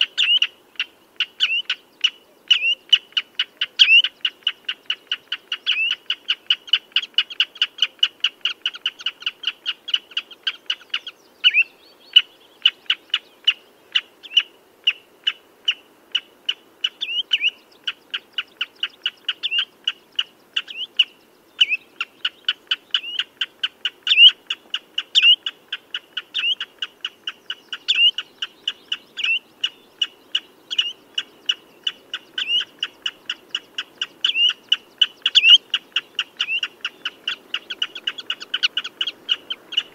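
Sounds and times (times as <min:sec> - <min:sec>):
redshank piping calls: 0:00.0 - 0:39.9.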